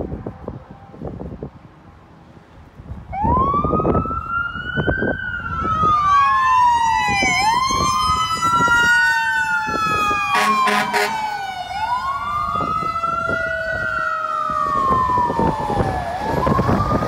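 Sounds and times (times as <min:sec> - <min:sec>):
fire truck siren wailing: 0:03.1 - 0:17.0.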